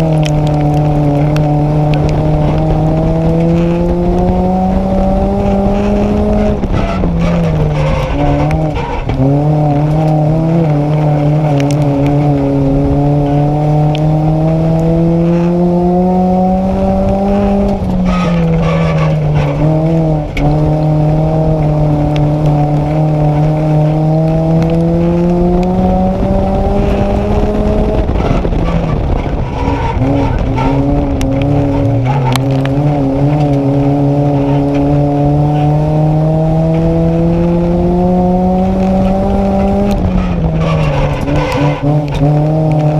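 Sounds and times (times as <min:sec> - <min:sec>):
race car engine under load: 0:00.0 - 0:42.9.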